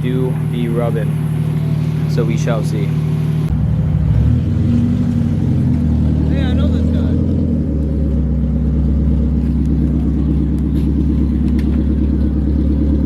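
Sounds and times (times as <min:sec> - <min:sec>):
car engine idling at low revs: 0:00.0 - 0:13.0.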